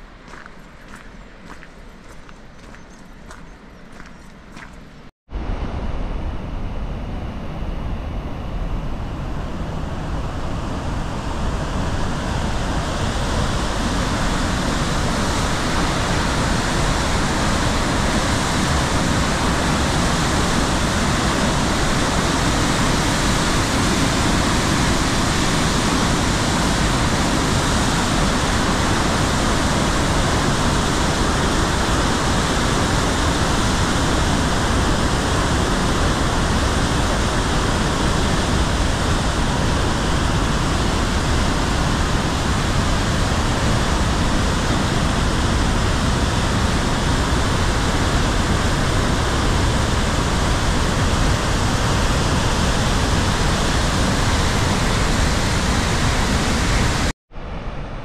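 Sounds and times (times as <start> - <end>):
rushing water: 0.0 - 5.0, 12.4 - 57.1.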